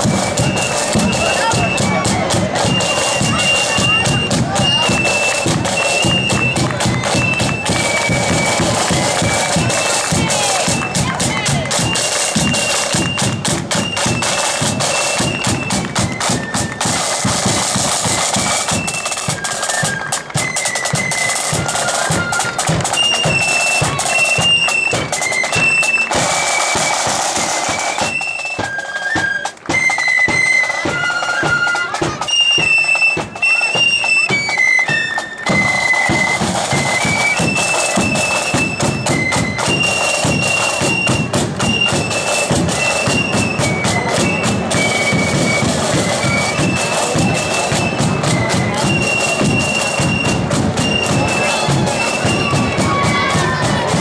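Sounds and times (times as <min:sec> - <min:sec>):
high flute melody: 0:00.0 - 0:54.0
snare and bass drums: 0:00.0 - 0:54.0.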